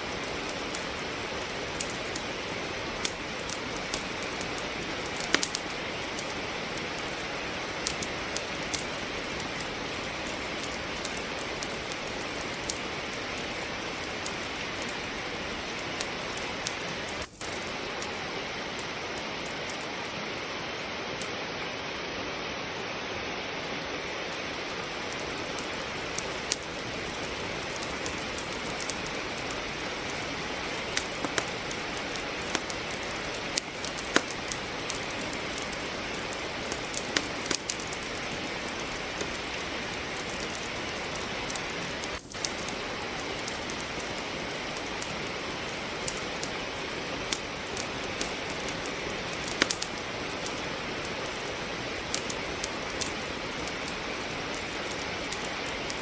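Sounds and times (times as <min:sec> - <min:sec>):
rain hiss: 0:00.0 - 0:56.0
wood fire crackling and popping: 0:00.0 - 0:56.0.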